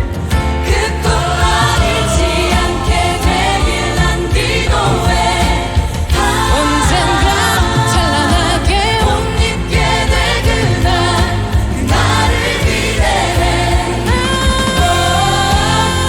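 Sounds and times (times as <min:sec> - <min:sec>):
choir singing in parts: 0:00.0 - 0:16.0
instrumental accompaniment: 0:00.0 - 0:16.0.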